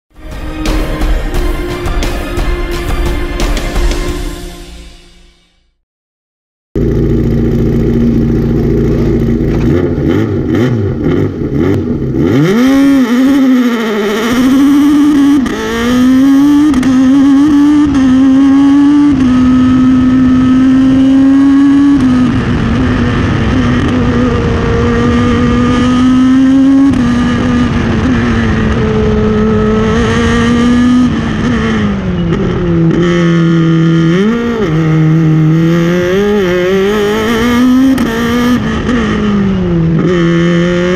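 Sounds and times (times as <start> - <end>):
racing car engine at high revs: 6.8 - 40.9.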